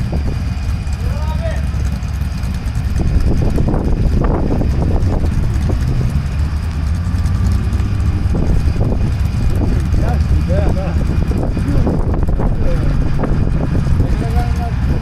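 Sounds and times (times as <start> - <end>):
off-road engines idling: 0.0 - 15.0.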